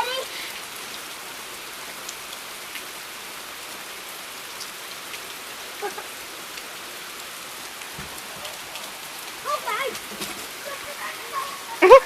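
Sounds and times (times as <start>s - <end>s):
raindrops ticking: 0.0s - 12.0s
steady rain hiss: 0.0s - 12.0s.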